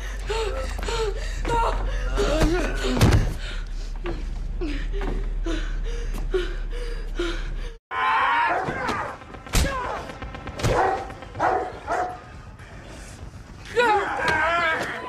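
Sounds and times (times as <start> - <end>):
low hum with repeating pulse: 0.0 - 14.6.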